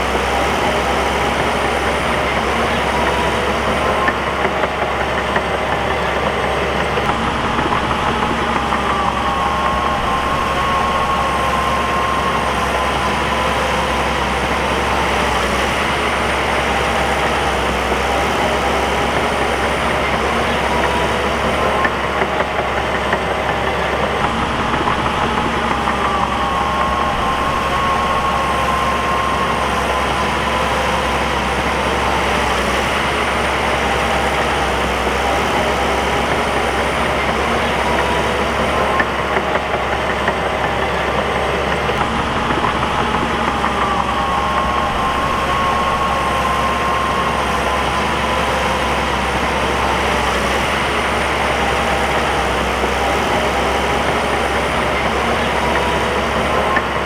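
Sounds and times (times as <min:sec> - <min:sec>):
bulldozer diesel engine: 0:00.0 - 0:57.0
whining tone: 0:00.0 - 0:57.0.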